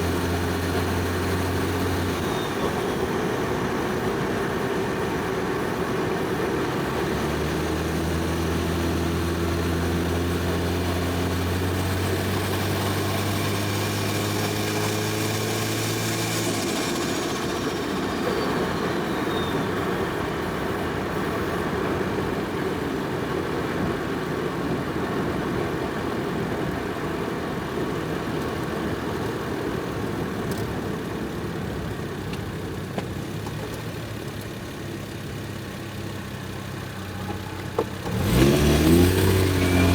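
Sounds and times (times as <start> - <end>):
car engine pulling: 0.0 - 25.6, 26.3 - 39.9
road and tyre noise: 0.0 - 39.9.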